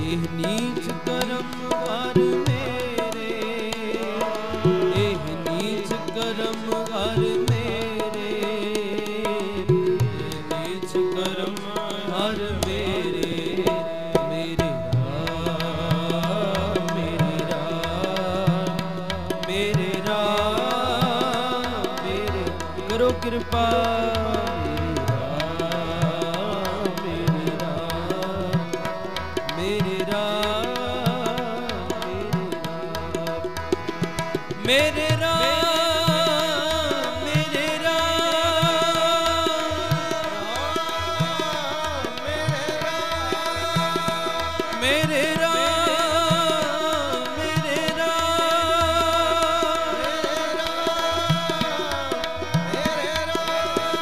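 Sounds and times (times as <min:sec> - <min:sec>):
harmonium melody: 0:00.0 - 0:54.0
tabla drumming: 0:00.0 - 0:54.0.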